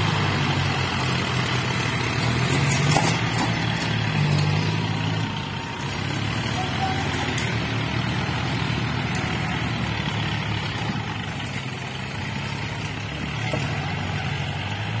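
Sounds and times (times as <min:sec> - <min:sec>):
tractor diesel engines running: 0:00.0 - 0:15.0.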